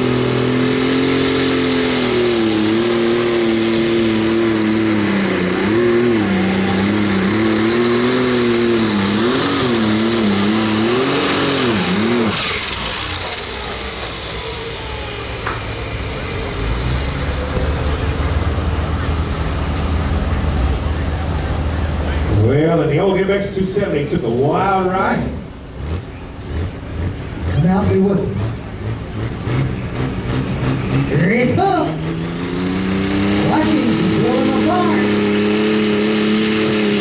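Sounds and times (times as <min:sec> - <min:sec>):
diesel engine running hard: 0:00.0 - 0:37.0.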